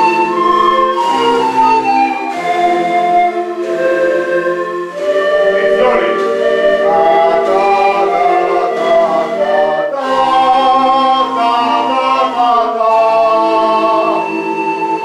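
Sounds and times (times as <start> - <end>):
pan flutes playing chords: 0.0 - 15.0.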